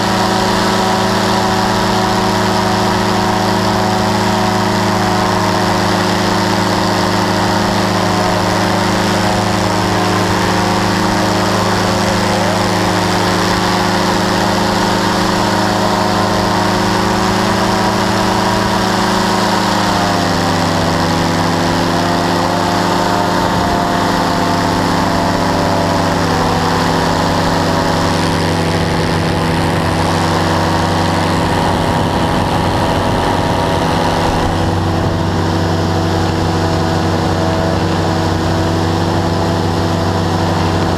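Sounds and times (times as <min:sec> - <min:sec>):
engine and propeller drone: 0:00.0 - 0:40.9.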